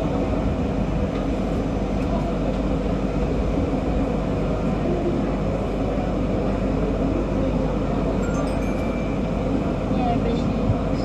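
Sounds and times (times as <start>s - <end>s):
metro train rumbling on rails: 0.0s - 11.0s.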